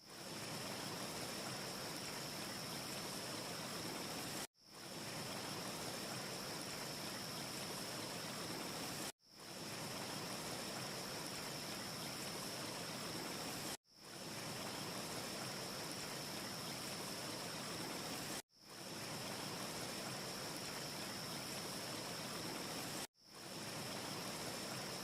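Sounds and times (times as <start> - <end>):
steady hissing noise: 0.0 - 25.0.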